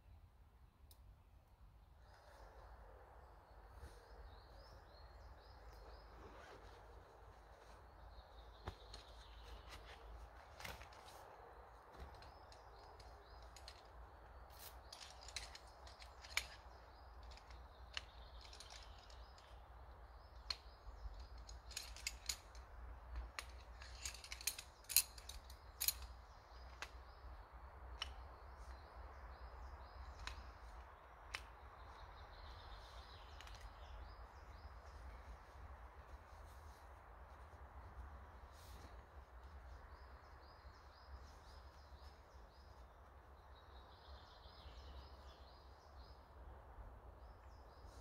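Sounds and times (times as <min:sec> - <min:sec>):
faint bird chirping: 0:00.0 - 0:48.0.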